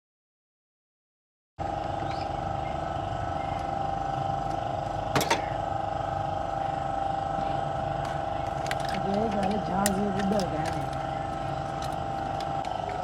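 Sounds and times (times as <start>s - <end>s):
car engine running: 1.6s - 13.0s.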